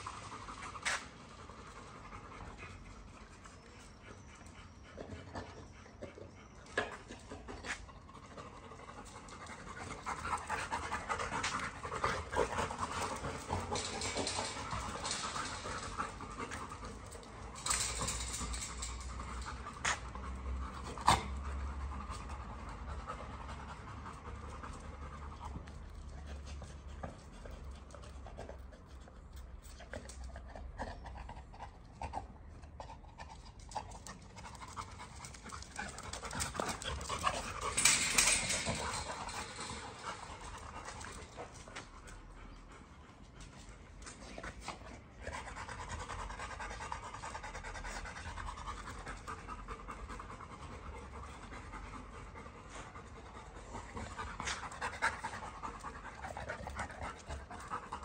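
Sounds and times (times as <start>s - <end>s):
dogs panting: 0.0s - 58.0s.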